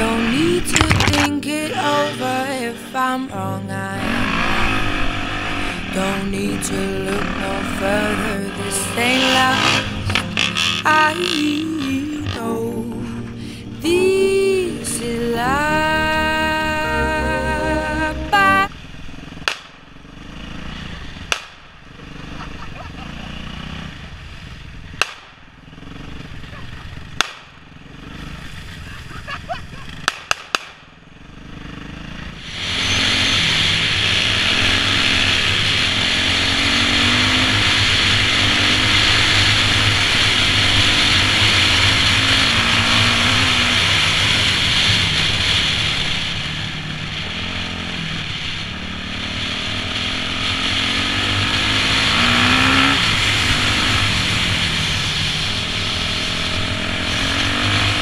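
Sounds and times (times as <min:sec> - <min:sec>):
motorcycle engine revving: 0:00.0 - 0:14.3, 0:15.0 - 0:58.0.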